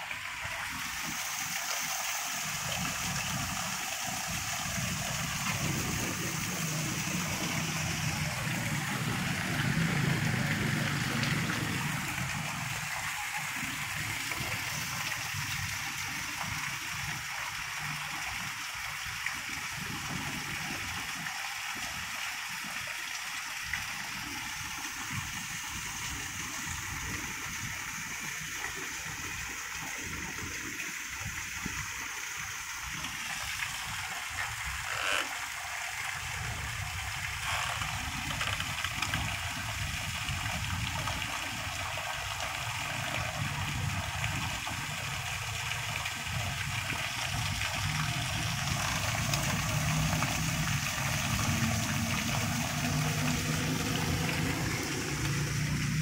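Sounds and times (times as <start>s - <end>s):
heavy rain splashing into water: 0.0s - 56.0s.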